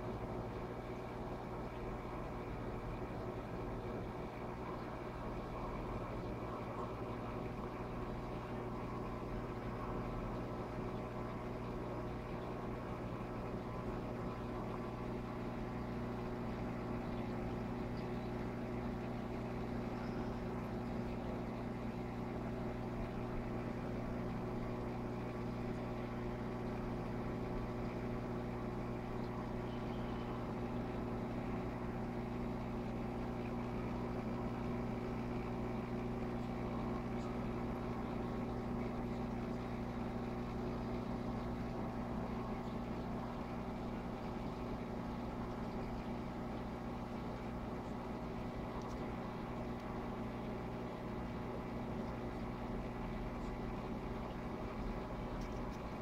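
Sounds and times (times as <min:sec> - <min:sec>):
aquarium equipment humming: 0:00.0 - 0:56.0.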